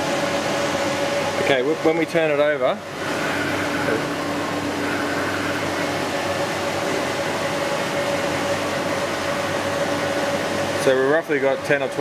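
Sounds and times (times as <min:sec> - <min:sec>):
grinding machine humming: 0:00.0 - 0:12.0.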